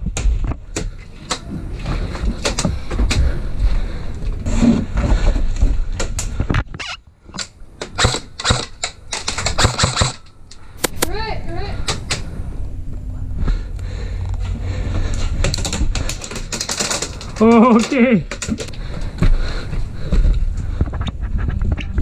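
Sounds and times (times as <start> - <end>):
low rumble: 0.0 - 7.8, 10.2 - 17.5, 18.2 - 22.0.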